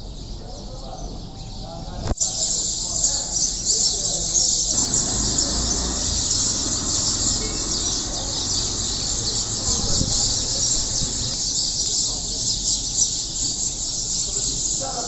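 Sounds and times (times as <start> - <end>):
chorus of small birds chirping: 0.0 - 15.0.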